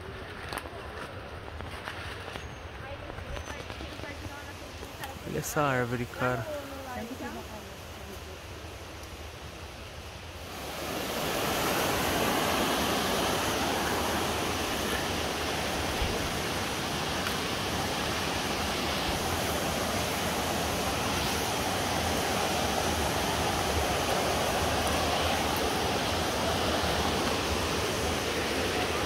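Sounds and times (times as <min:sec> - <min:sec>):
river water rushing: 0:04.6 - 0:08.5, 0:09.2 - 0:29.0.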